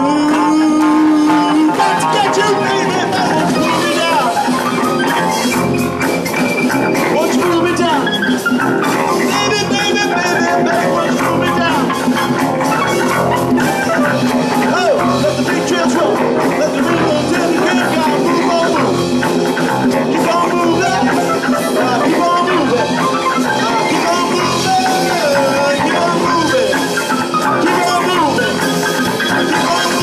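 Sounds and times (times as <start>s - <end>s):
rock music: 0.0s - 30.0s.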